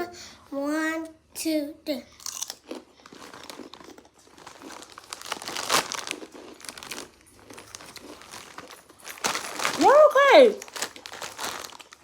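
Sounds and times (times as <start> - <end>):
chip bag crinkling: 2.2 - 12.0
chips being crunched and chewed: 2.2 - 12.0.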